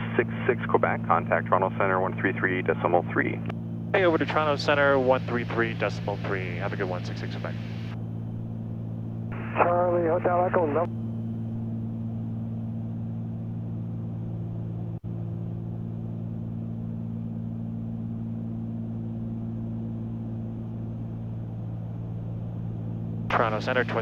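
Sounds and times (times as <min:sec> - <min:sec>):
airplane piston engines droning: 0:00.0 - 0:24.0.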